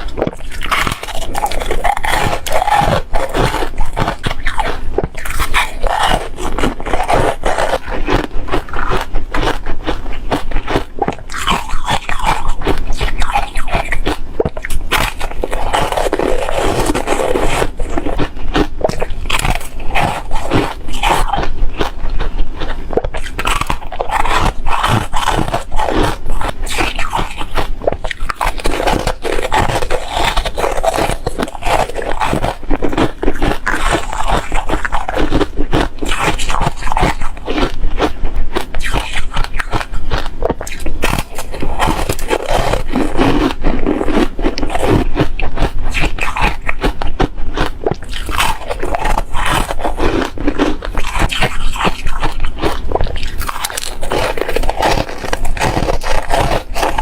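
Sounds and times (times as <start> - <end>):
chewing crispy foam: 0.0 - 57.0.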